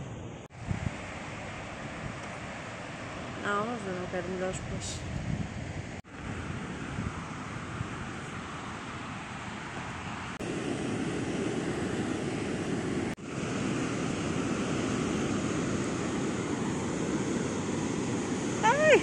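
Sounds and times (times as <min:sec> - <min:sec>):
wind buffeting microphone: 0:00.5 - 0:02.5, 0:03.3 - 0:19.0
sea surf washing on shore: 0:00.5 - 0:19.0.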